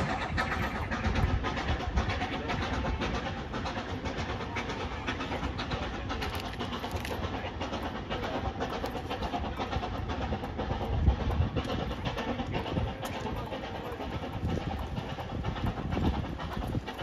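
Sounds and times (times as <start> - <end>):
steam train running: 0.0 - 17.0.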